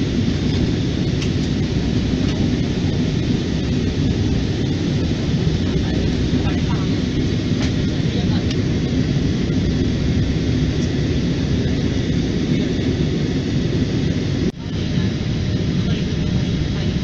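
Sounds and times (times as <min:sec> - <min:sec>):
airliner cabin engine and air noise: 0:00.0 - 0:17.0.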